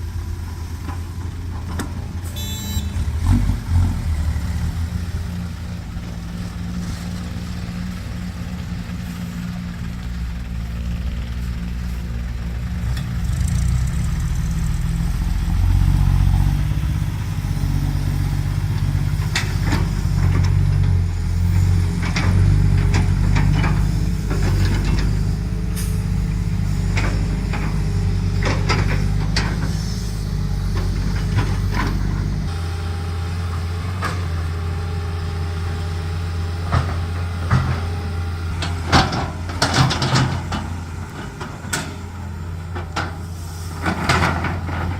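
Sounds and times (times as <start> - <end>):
diesel excavator engine running: 0.0 - 44.9.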